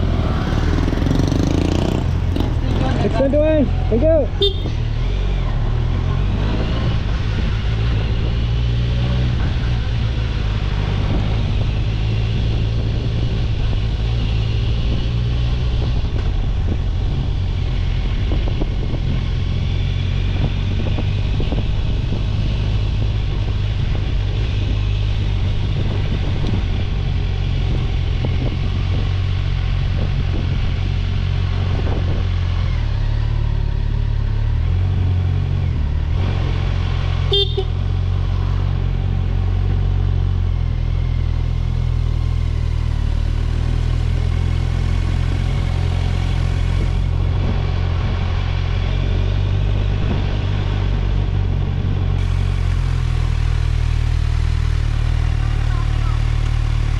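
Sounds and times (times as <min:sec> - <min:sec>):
motorcycle engine cruising: 0:00.0 - 0:56.9
road and wind noise: 0:00.0 - 0:56.9.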